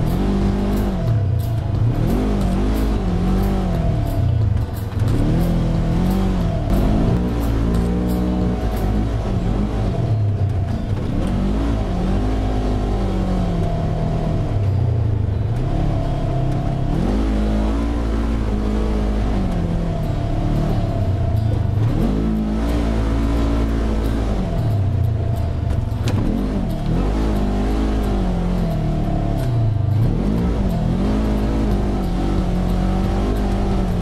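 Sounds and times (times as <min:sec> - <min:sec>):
utility vehicle engine running: 0:00.0 - 0:34.0.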